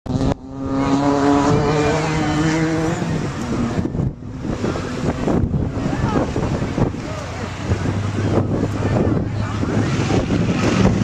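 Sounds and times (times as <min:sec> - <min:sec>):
off-road vehicle engine: 0:00.1 - 0:11.0
rough crackling rush of noise: 0:00.1 - 0:11.0.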